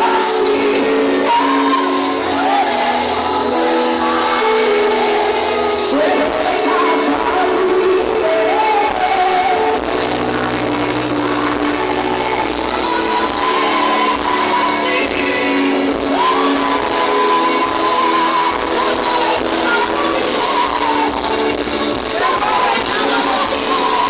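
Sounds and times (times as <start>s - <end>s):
sustained musical accompaniment: 0.0s - 24.0s.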